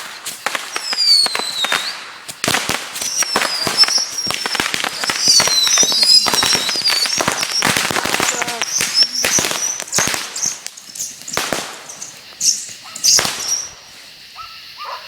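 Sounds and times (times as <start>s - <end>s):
fireworks crackling pops: 0.0s - 14.7s
fireworks whistles: 0.0s - 15.0s.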